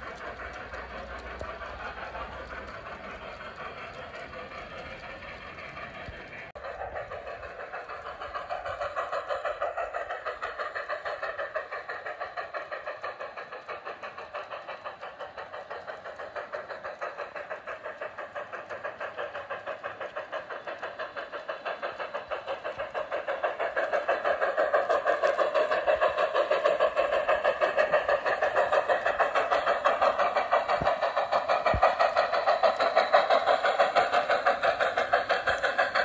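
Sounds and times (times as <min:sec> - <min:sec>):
model steam locomotive chuffing: 0:00.0 - 0:36.0.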